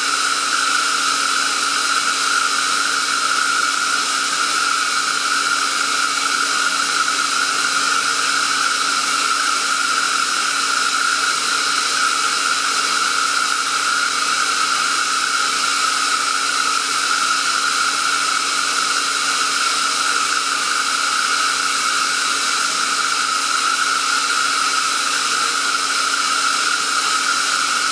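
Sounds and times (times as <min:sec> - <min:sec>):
air compressor running: 0:00.0 - 0:27.9.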